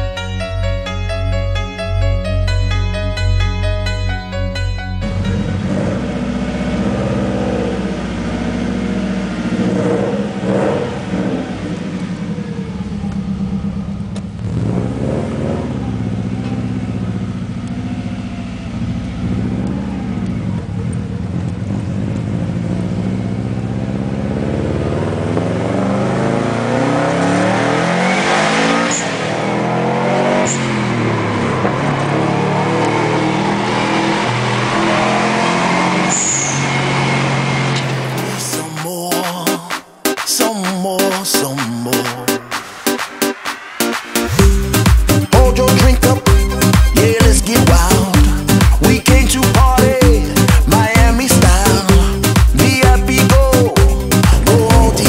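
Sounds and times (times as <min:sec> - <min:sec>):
car engine revving: 0:05.0 - 0:38.9, 0:42.0 - 0:55.0.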